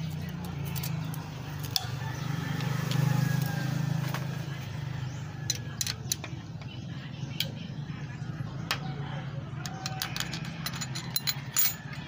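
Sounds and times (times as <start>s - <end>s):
engine running low hum: 0.0s - 10.7s.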